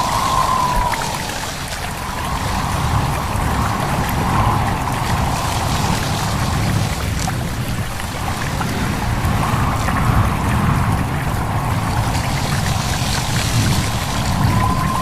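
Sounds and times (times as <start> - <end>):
stream babbling: 0.0 - 15.0
wind rushing: 0.0 - 15.0.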